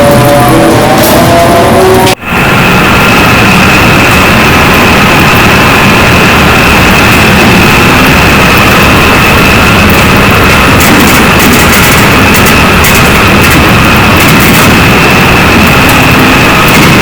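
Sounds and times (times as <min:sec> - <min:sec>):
high whine: 0:00.0 - 0:17.0
loud machinery noise: 0:00.0 - 0:17.0.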